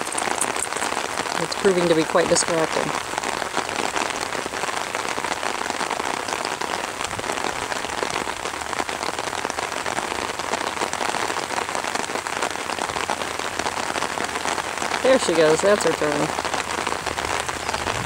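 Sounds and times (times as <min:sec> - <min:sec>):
rain pattering on an umbrella: 0:00.0 - 0:18.0.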